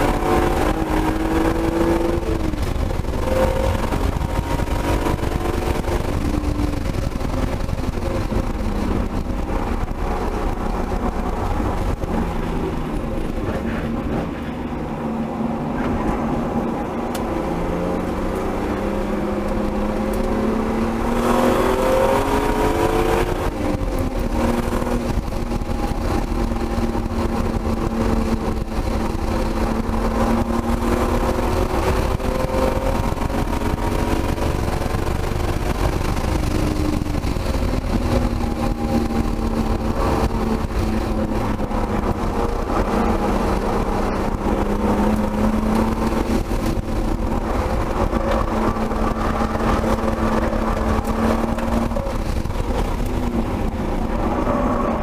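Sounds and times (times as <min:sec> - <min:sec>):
car engine under hard driving: 0:00.0 - 0:55.0.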